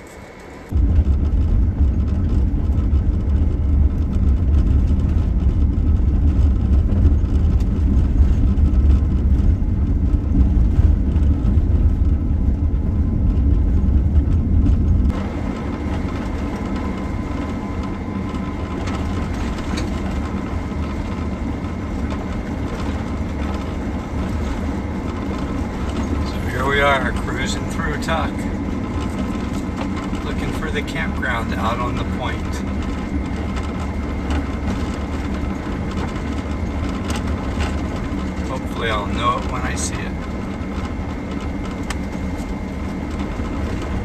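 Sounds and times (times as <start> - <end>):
faint steady whine: 0.0 - 44.0
van tyres and engine rumbling: 0.0 - 44.0.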